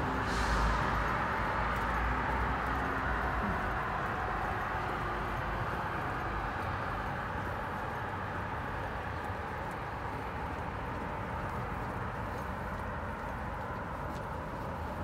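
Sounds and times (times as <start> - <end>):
footsteps walking: 0.0 - 15.0
traffic hum: 0.0 - 15.0.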